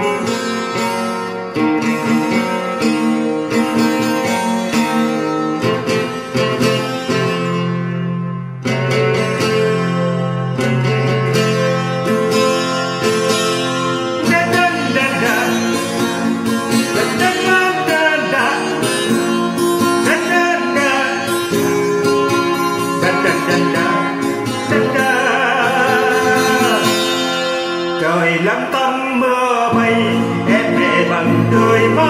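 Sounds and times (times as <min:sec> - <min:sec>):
sliding lead melody: 0:00.0 - 0:28.6
acoustic guitar: 0:00.0 - 0:32.0.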